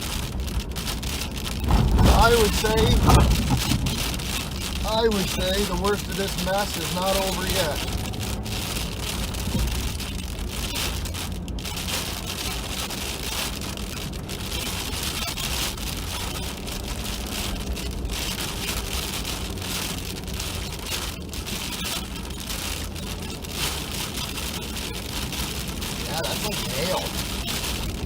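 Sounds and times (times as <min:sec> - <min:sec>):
freezing rain pelting truck cab: 0:00.0 - 0:28.0
truck engine humming: 0:00.0 - 0:28.0.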